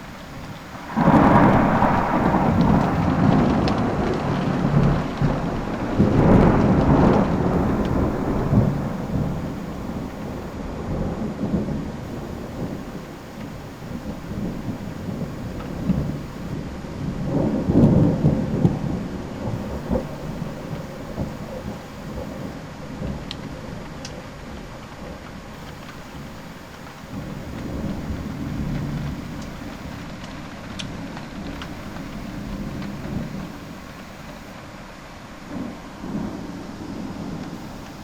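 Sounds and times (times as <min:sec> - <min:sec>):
rain hissing: 0:00.0 - 0:17.0, 0:19.3 - 0:22.8, 0:25.5 - 0:38.0
thunder rumbling: 0:00.0 - 0:23.2, 0:25.6 - 0:30.2, 0:31.5 - 0:34.6, 0:35.5 - 0:38.0.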